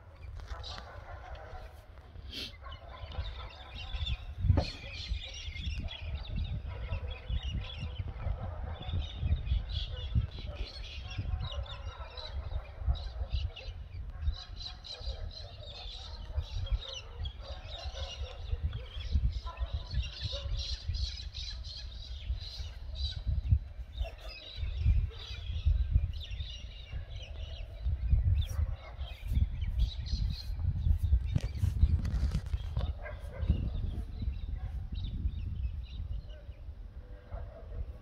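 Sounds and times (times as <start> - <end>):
birds chirping: 0.0 - 38.0
wind on microphone: 0.0 - 38.0.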